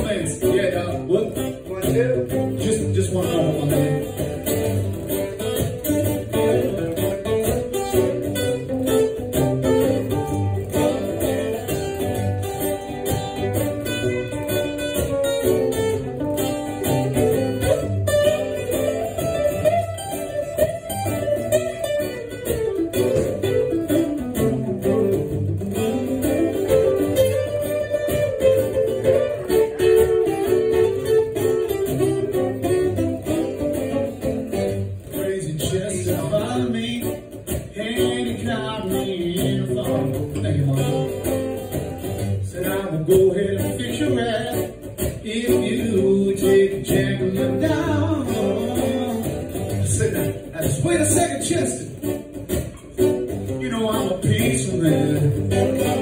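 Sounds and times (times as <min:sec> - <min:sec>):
acoustic guitar picking: 0:00.0 - 0:56.0.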